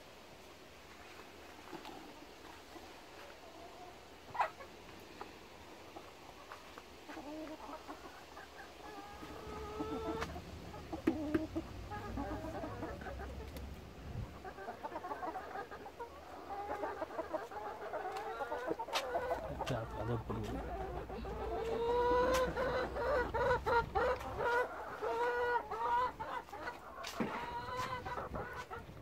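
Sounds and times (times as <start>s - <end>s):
chickens clucking: 0.9s - 29.0s.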